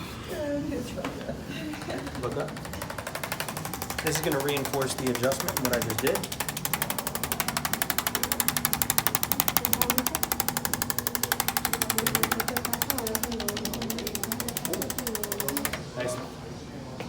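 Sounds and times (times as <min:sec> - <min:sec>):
motor hum: 0:01.5 - 0:16.2
percussion massager hammering: 0:01.7 - 0:16.0.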